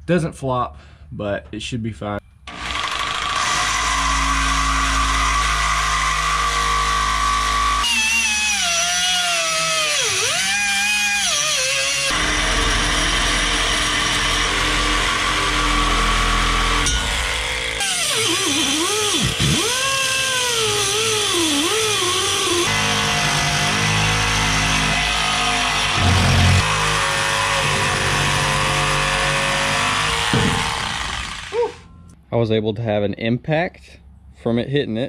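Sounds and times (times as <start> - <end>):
cut-off wheel grinding steel pipe: 2.5 - 31.6.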